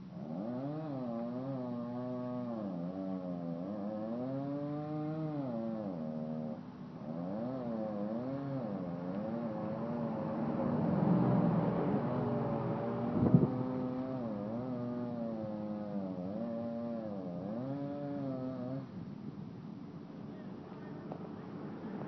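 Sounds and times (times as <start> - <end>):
chainsaw cutting wood: 0.1 - 19.0.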